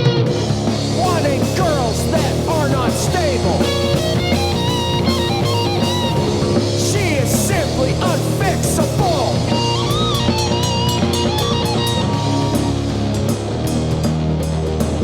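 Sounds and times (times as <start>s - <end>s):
electric guitar lead with slides: 0.0s - 15.0s
rock band playing: 0.0s - 15.0s.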